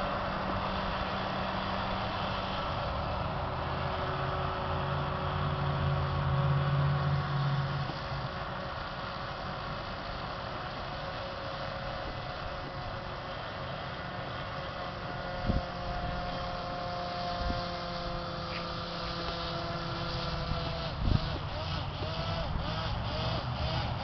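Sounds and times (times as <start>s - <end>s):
air boat propeller and motor whine: 0.0s - 24.0s
higher motor tone: 0.0s - 24.0s.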